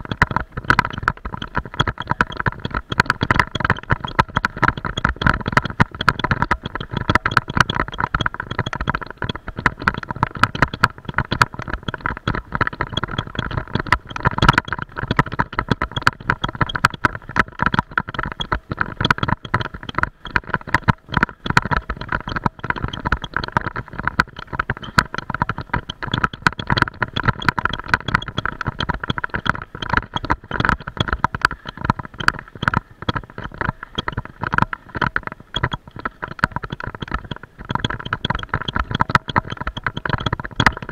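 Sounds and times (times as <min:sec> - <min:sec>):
camera mount rattling and knocking: 0:00.0 - 0:40.9.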